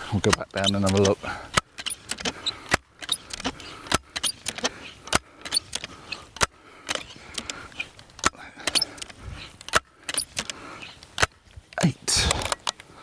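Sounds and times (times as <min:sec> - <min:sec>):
air rifle pump clacking: 0:00.0 - 0:13.0.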